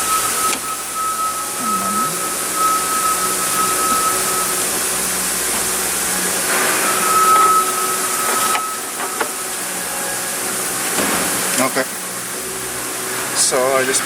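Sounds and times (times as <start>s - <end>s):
high whine: 0.0s - 13.3s
steady hiss: 0.0s - 14.0s.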